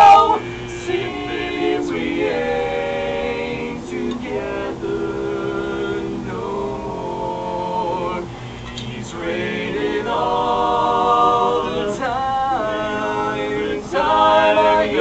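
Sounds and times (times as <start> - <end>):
voices singing harmony chords: 0.0 - 15.0.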